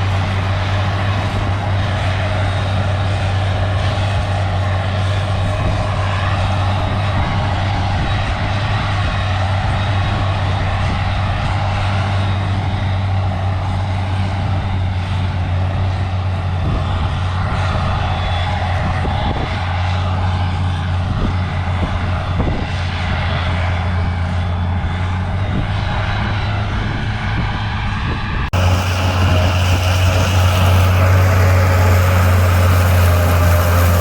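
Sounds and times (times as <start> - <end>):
diesel farm machinery droning: 0.0 - 34.0.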